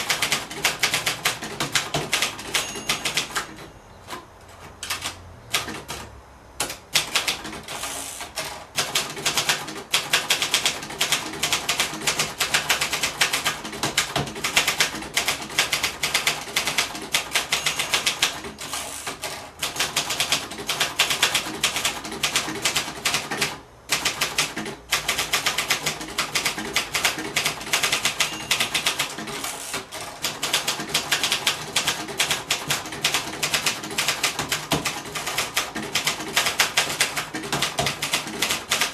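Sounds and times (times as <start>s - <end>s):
manual typewriter typing: 0.0s - 38.9s.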